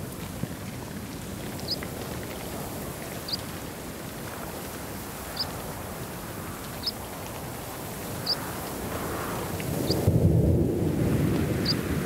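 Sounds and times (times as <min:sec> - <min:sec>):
wind rushing over grass: 0:00.0 - 0:12.0.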